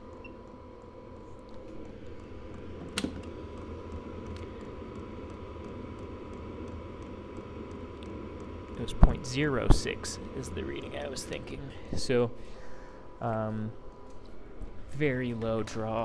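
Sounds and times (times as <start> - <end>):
heater fan and burner drone: 0.0 - 16.0.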